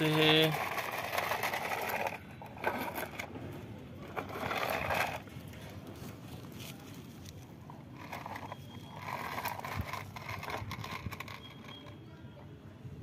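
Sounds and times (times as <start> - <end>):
plastic wheels scraping on concrete: 0.0 - 12.3.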